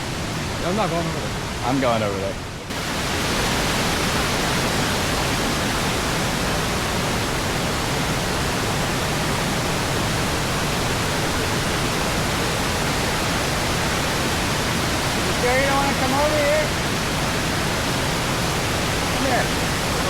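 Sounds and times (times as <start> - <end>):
large waterfall rushing: 0.0 - 20.0.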